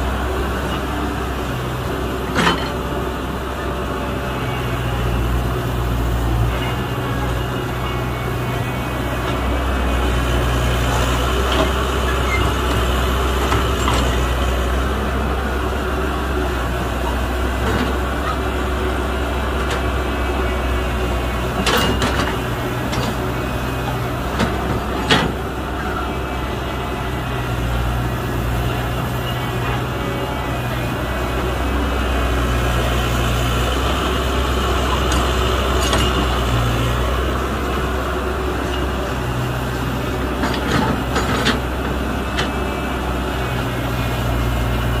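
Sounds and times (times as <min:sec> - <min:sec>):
diesel excavator engine running: 0:00.0 - 0:45.0.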